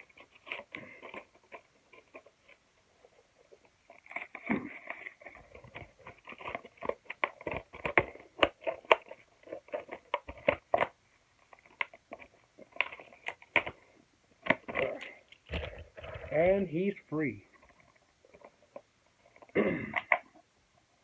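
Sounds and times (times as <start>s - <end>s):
toy packaging crinkling and snapping: 0.0s - 16.6s, 17.5s - 20.4s.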